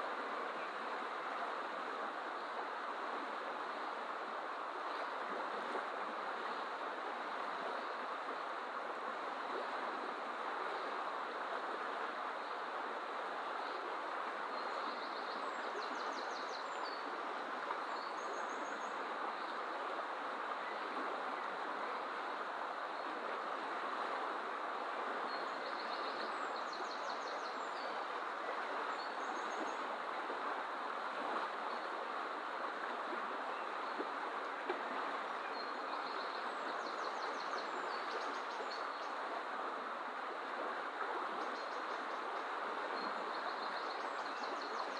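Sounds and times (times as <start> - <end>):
fast-flowing river rushing: 0.0 - 44.9.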